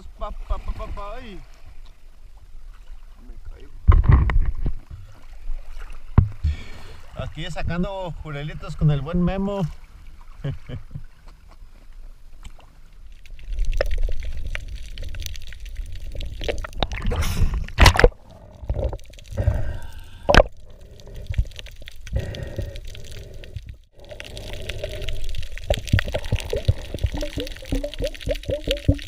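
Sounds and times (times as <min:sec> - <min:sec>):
water sloshing and gurgling: 0:00.0 - 0:29.0.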